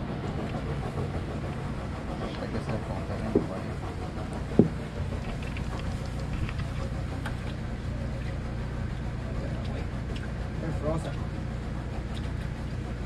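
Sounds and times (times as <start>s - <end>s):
boat machinery humming: 0.0s - 13.0s.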